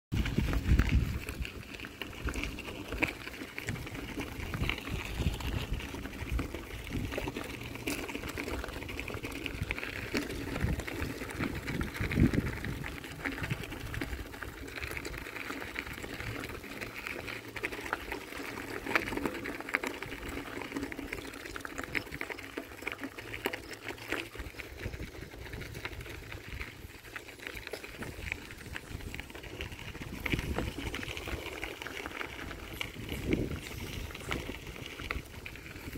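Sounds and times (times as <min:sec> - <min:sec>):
bicycle tyres crunching on gravel: 0:00.1 - 0:35.9
bike rattles: 0:00.1 - 0:35.9.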